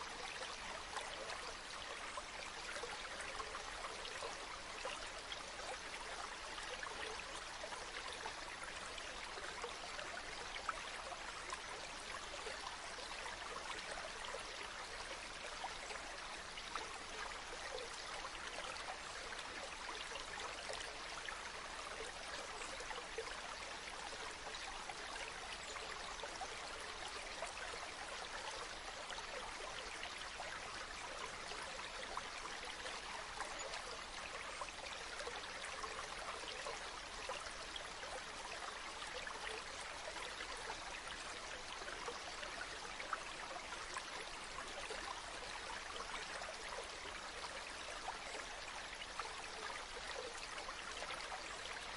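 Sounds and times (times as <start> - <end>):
stream water flowing: 0.0 - 51.9.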